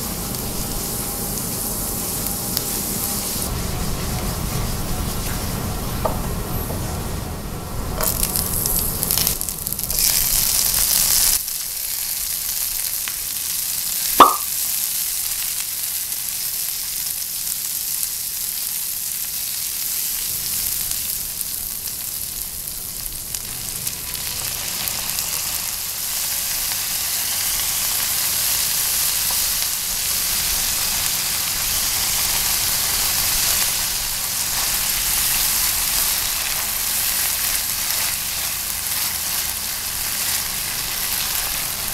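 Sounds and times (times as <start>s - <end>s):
hot oil sizzling in a frying pan: 0.0s - 7.2s, 7.9s - 41.9s.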